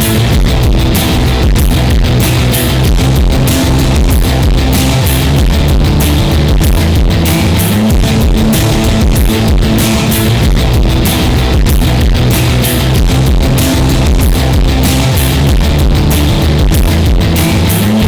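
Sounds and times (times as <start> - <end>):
rock music with electric guitar: 0.0 - 18.0.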